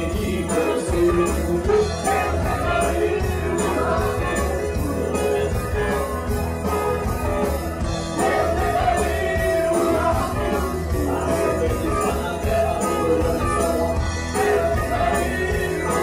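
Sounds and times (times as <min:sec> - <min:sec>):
live rock band playing: 0:00.0 - 0:16.0
man singing: 0:00.0 - 0:16.0.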